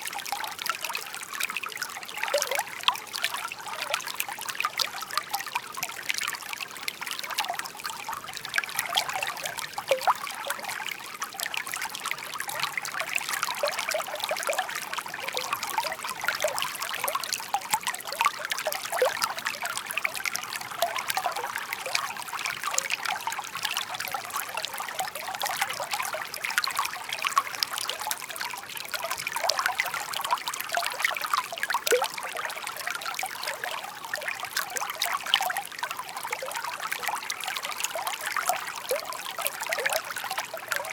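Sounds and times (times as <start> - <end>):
brook trickling over stones: 0.0 - 40.9.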